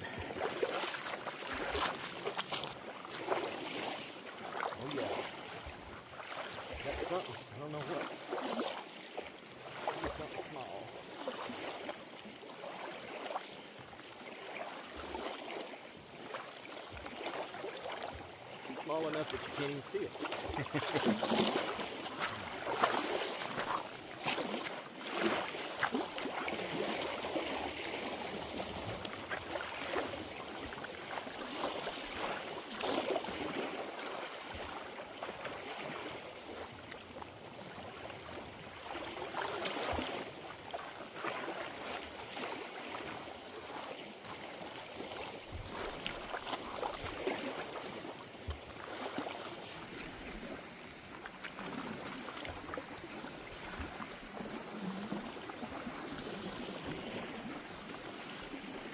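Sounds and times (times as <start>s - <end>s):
lake water sloshing and splashing: 0.0s - 58.9s.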